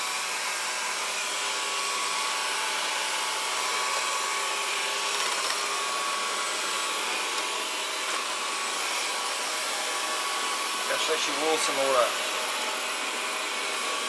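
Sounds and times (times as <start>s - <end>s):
robot vacuum cleaner whirring: 0.0s - 14.0s.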